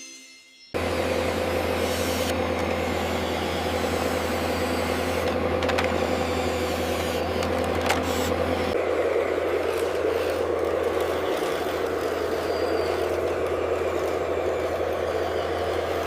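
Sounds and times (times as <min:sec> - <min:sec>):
heavy machine engine droning: 0:00.8 - 0:16.0.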